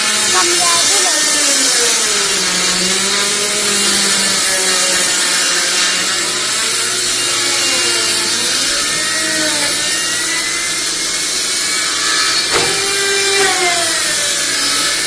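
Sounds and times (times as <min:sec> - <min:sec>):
power tool cutting wood: 0:00.0 - 0:15.0.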